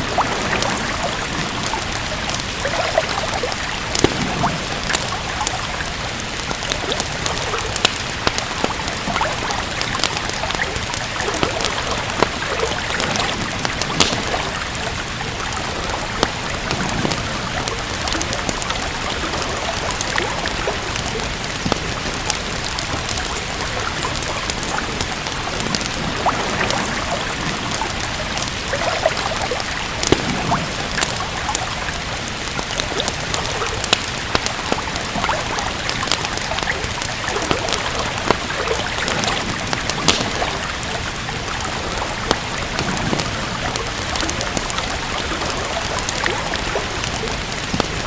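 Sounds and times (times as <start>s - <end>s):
steady rain: 0.0s - 48.0s
wood fire crackling and popping: 0.0s - 48.0s.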